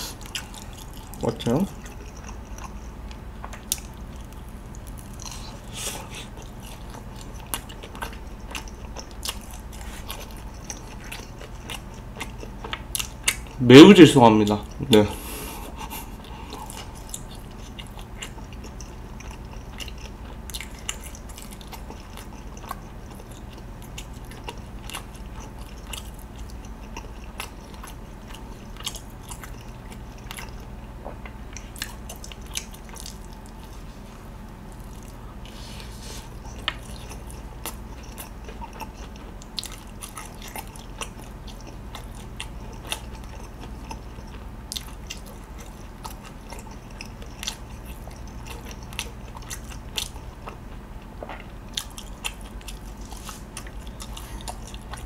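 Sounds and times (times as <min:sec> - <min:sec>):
faint steady hum: 0:00.0 - 0:55.0
mouth chewing meat: 0:00.0 - 0:55.0.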